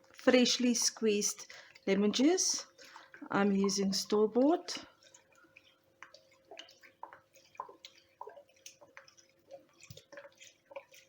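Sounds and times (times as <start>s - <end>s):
liquid dripping into a bowl: 0.0s - 11.0s.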